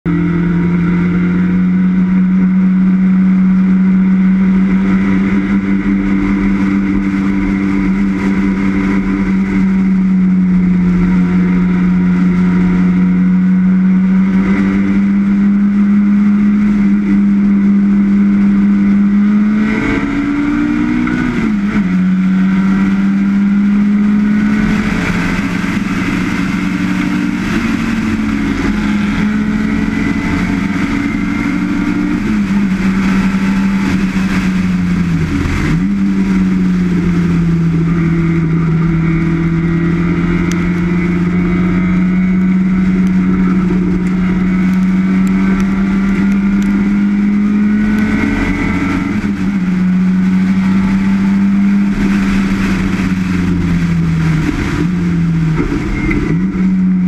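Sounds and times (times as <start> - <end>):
race car engine pulling hard: 0.0 - 57.0.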